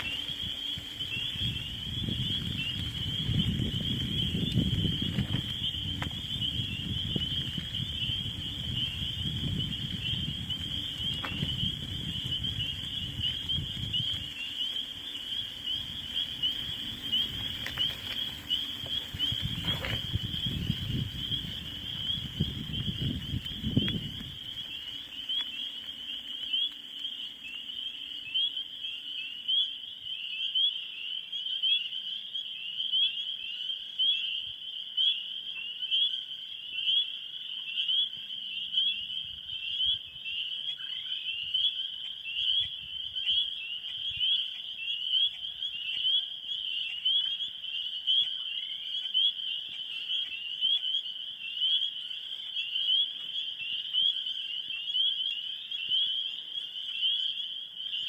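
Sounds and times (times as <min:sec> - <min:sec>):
frog chorus chirping: 0:00.0 - 0:58.0.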